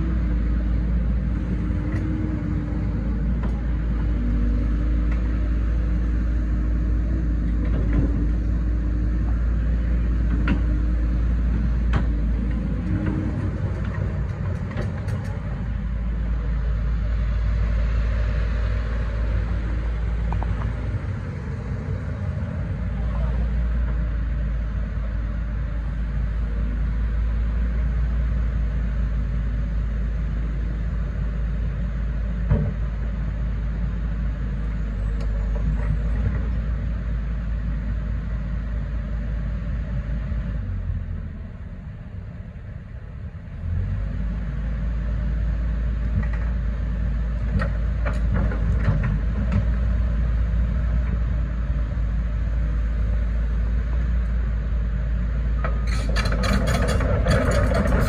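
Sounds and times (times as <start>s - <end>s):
excavator diesel engine rumbling: 0.0s - 58.0s.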